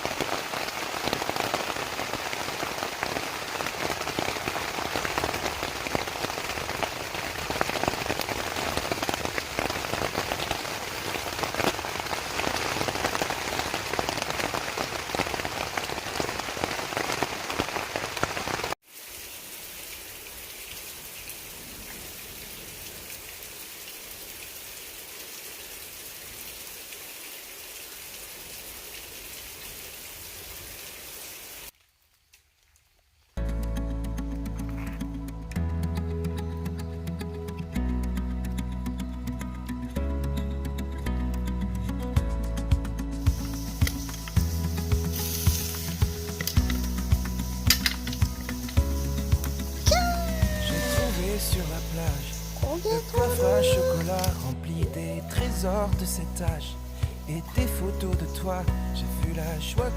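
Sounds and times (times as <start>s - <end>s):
heavy rain hissing: 0.0s - 31.8s, 43.0s - 59.9s.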